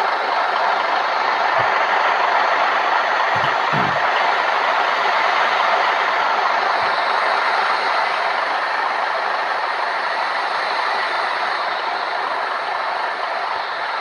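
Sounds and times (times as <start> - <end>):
bus road noise: 0.0 - 14.0.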